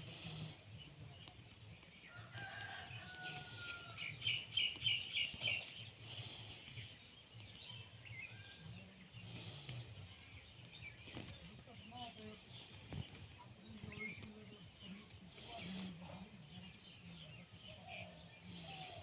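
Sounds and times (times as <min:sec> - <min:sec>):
bird calls: 0:00.0 - 0:19.0.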